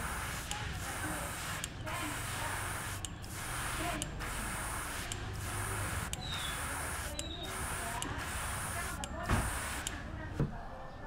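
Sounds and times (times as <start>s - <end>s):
airbrush spraying hiss: 0.0s - 10.0s.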